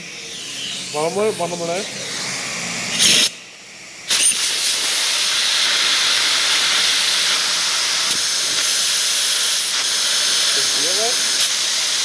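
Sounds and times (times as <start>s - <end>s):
compressed air hissing: 0.0s - 3.4s, 4.0s - 12.0s.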